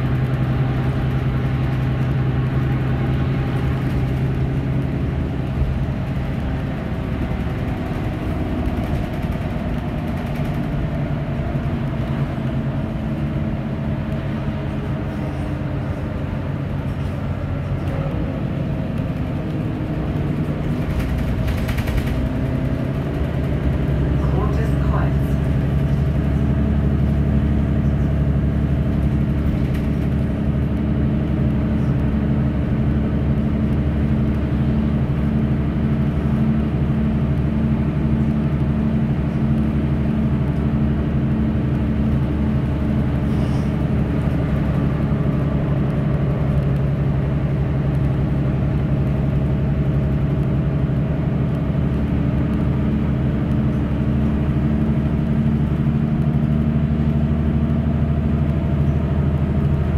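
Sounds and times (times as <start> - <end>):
bus engine drone: 0.0 - 59.9
tyre and road noise: 0.0 - 59.9.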